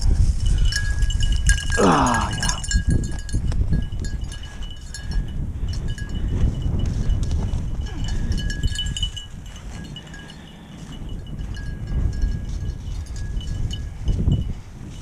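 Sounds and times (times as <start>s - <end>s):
dog collar bell jingling: 0.0s - 15.0s.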